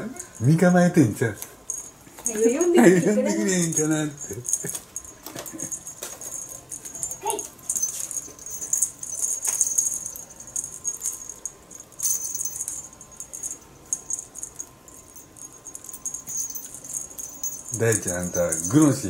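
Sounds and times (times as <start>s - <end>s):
cat toy rattling and jingling: 0.0s - 19.0s.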